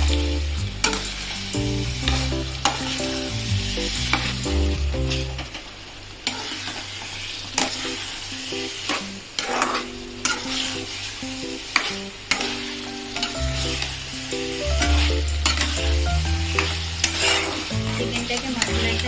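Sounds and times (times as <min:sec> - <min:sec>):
chicken sizzling in a pan: 0:00.0 - 0:19.0.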